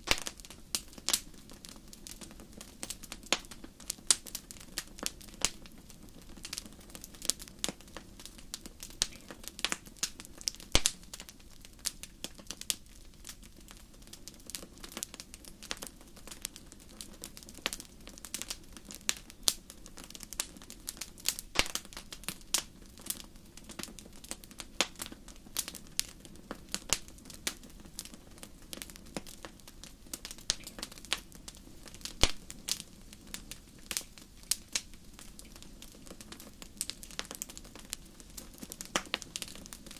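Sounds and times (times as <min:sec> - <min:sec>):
sharp pops and snaps: 0:00.0 - 0:13.4, 0:14.4 - 0:39.9
wood fire crackling: 0:00.0 - 0:39.9.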